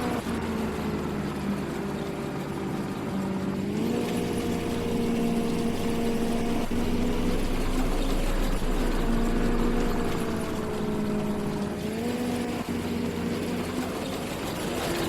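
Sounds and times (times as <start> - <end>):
farm machine engine running: 0.0 - 15.0.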